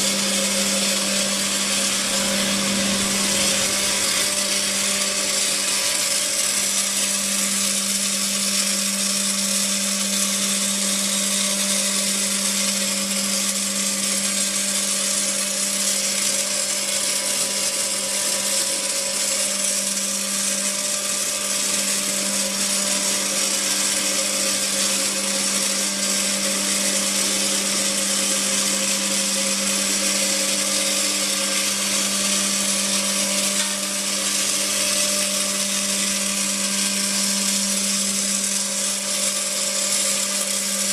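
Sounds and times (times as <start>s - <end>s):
motor hum: 0.0s - 40.9s.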